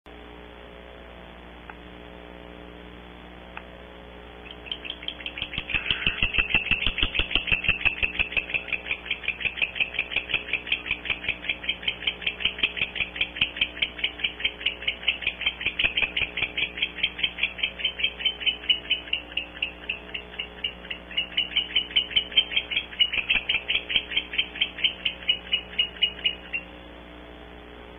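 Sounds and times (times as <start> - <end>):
low electrical hum: 0.1 - 27.9
barn owls chittering: 4.4 - 26.9.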